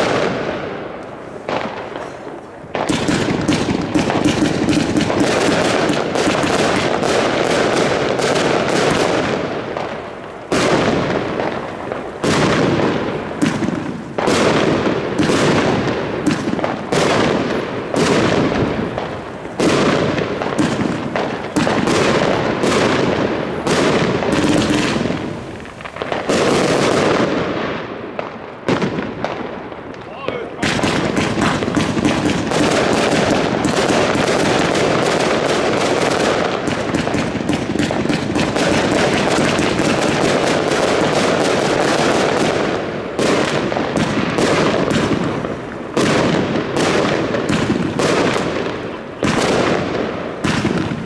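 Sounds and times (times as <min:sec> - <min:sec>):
fireworks launches and crackling bangs: 0:00.0 - 0:51.0.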